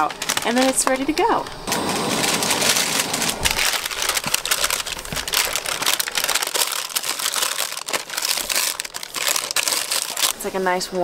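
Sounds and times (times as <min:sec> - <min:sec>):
paper crinkling and rustling: 0:00.0 - 0:10.5.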